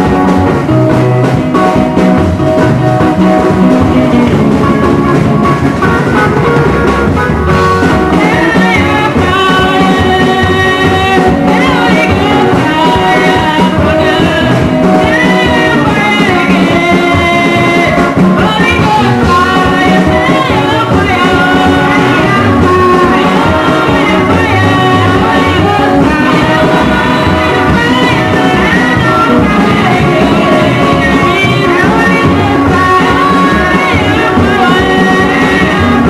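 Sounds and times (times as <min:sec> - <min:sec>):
loud music with singing: 0:00.0 - 0:36.0.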